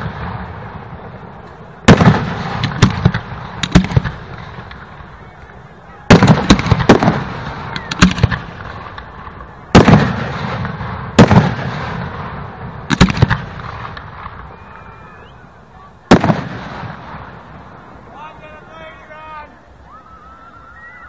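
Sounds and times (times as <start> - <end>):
fireworks booming with echo: 0.0 - 19.4.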